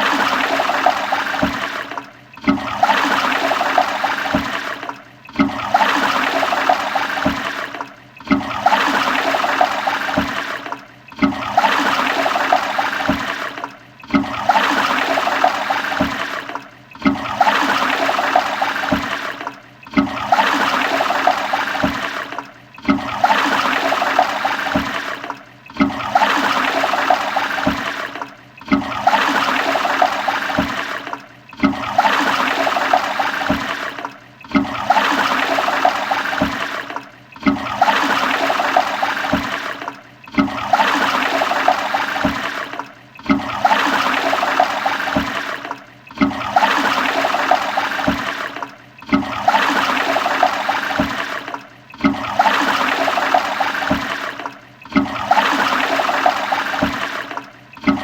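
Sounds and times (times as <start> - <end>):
toilet flushing: 0.0 - 58.0.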